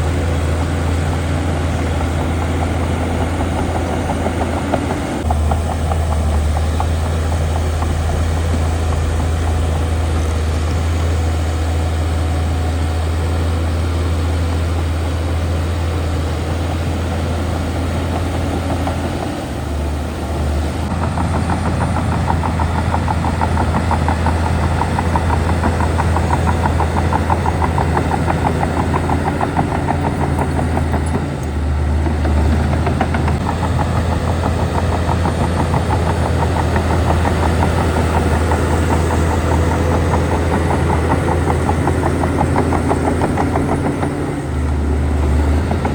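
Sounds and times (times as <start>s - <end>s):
heavy diesel engine droning: 0.0s - 45.9s.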